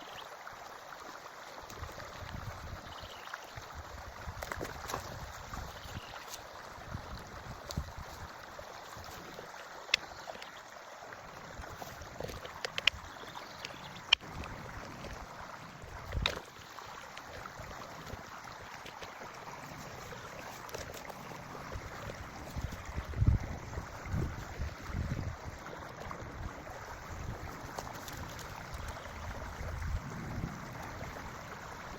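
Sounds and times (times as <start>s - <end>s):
creek flowing: 0.0s - 31.9s.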